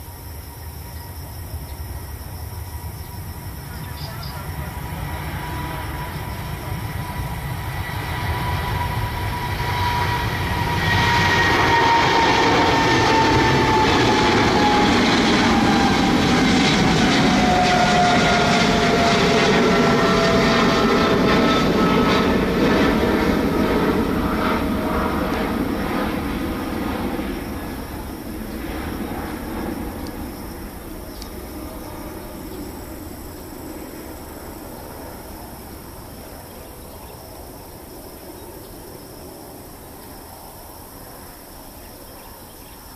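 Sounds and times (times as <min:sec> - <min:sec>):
high fan whine: 0:00.0 - 0:42.9
jet engine noise: 0:00.0 - 0:42.9.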